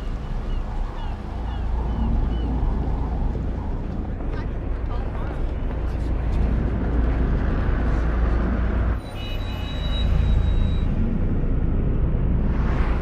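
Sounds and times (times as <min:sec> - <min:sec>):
deep spaceship rumble: 0:00.0 - 0:09.0, 0:09.8 - 0:13.0.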